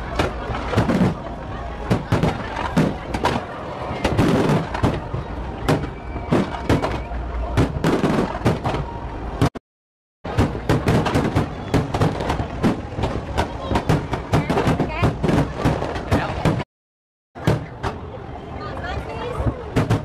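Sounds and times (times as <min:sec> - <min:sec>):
fireworks bangs and crackles: 0:00.0 - 0:09.6, 0:10.3 - 0:16.6, 0:19.4 - 0:20.0.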